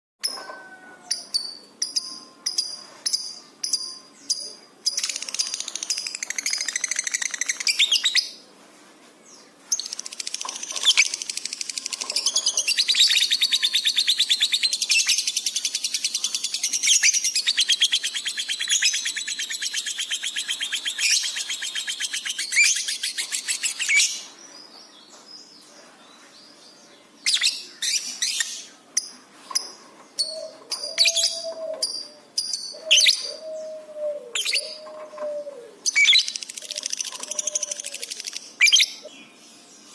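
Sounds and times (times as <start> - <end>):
lovebird chirping and chattering: 1.1 - 8.4, 9.7 - 24.3, 27.2 - 33.7, 34.3 - 35.2, 35.8 - 39.2.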